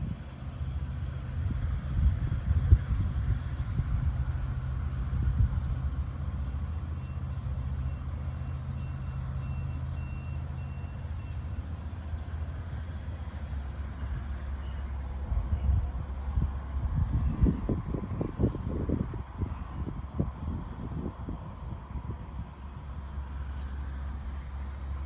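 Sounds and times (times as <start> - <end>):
faint insects chirping: 0.0 - 25.0.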